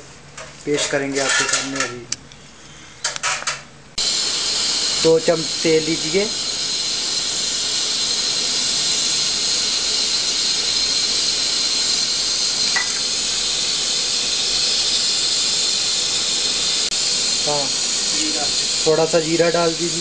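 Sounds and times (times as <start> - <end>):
gas burner hissing: 2.9 - 20.0.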